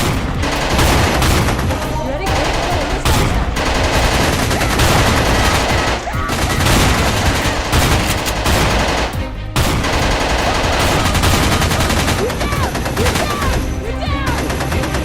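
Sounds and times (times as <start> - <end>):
automatic gunfire sound effects: 0.0 - 15.0
background music: 0.0 - 15.0.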